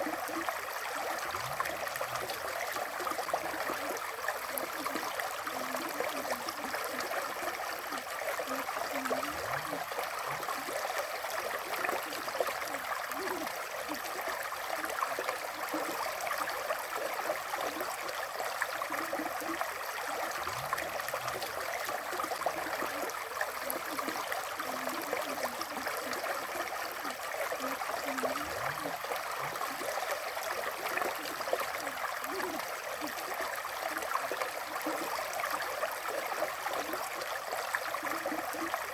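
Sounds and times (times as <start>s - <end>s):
water gurgling: 0.0s - 38.9s.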